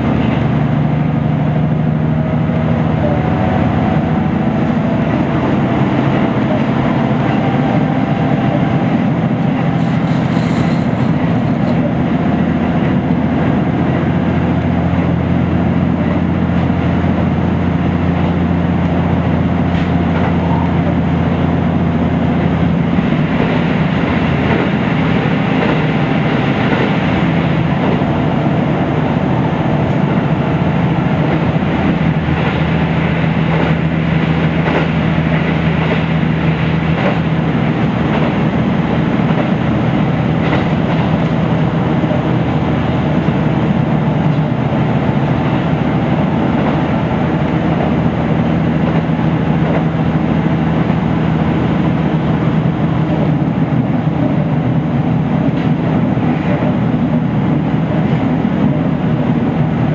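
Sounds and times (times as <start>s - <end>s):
diesel engine drone: 0.0s - 59.9s
train wheels on rail: 0.0s - 59.9s.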